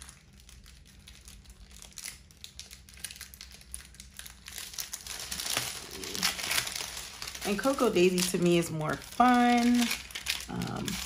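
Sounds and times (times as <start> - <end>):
paper and packaging crinkling: 0.0 - 11.0.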